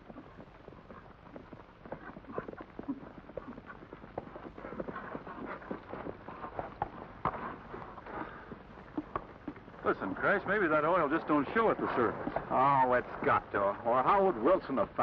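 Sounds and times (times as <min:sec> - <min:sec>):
horse hooves clip-clopping on dirt: 0:00.0 - 0:15.0.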